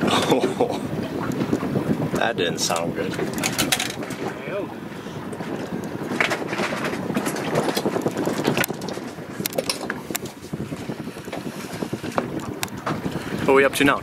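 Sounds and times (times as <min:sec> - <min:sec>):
water lapping against boat hull: 0:00.0 - 0:14.0
wind buffeting microphone: 0:00.0 - 0:14.0.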